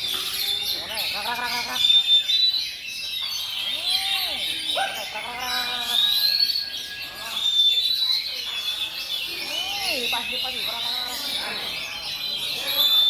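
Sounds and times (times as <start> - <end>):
people's voices: 0.0 - 2.4, 3.3 - 13.0
birds singing whistles and trills: 0.0 - 13.0.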